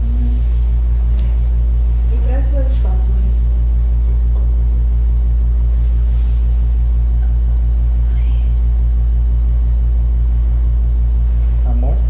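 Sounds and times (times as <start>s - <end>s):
kitchen fan motor humming: 0.0s - 12.0s.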